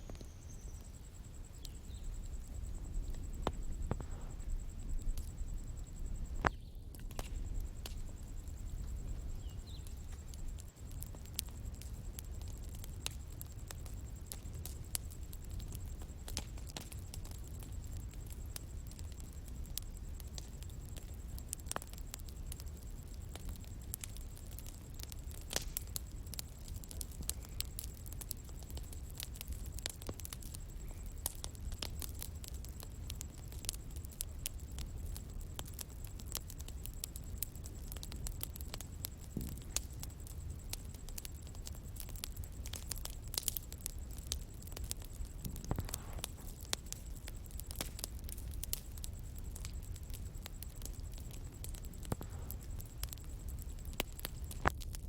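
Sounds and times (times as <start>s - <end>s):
bonfire crackling: 0.0s - 55.0s
low rumble of burning fire: 0.0s - 55.0s.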